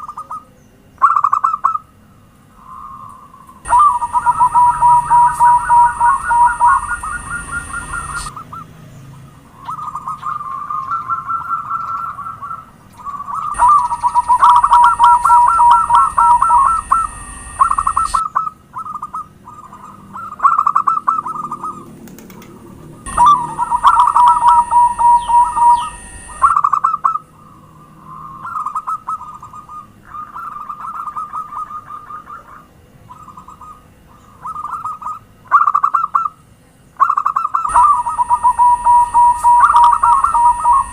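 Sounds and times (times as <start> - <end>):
doves cooing: 2.5 - 36.3, 37.0 - 40.9.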